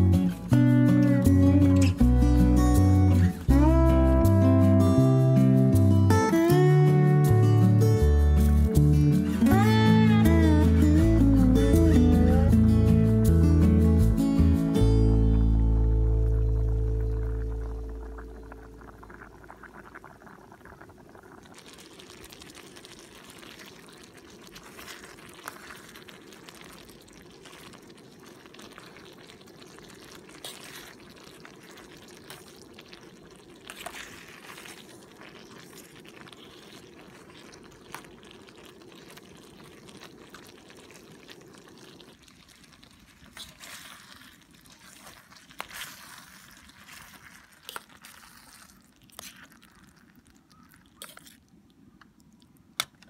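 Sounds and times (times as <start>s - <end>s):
pasta simmering and bubbling: 0.0s - 53.0s.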